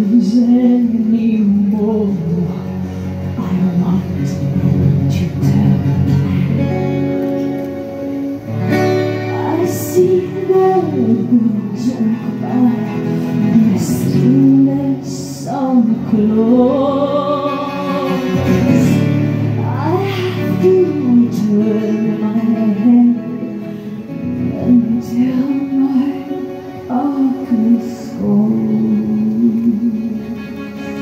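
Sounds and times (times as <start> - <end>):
woman singing: 0.0 - 7.0, 9.0 - 31.0
acoustic guitar: 0.0 - 31.0.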